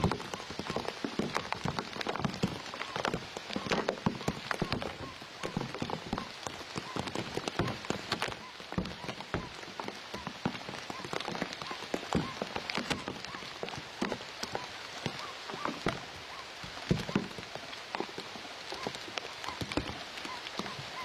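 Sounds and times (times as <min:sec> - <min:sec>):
rain on leaves: 0:00.0 - 0:21.0.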